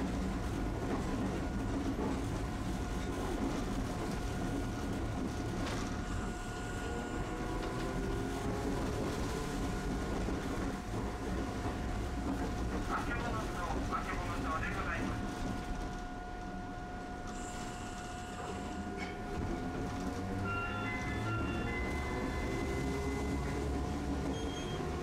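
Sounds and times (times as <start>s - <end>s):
streetcar rumbling: 0.0s - 25.0s.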